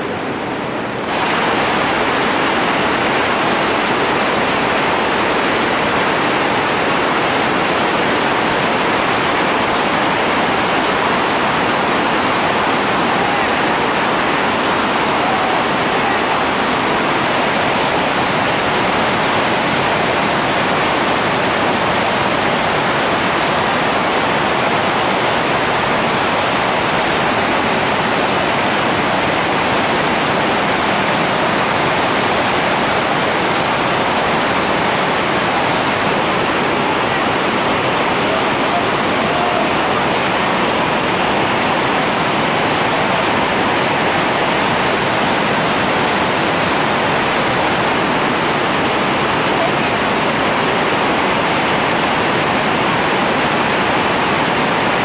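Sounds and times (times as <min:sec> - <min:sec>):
river rapids roaring: 0:00.0 - 0:55.0.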